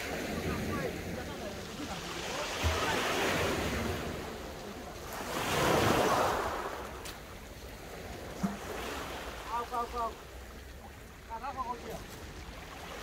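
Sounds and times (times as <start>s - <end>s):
waves washing over shingle beach: 0.0s - 13.0s.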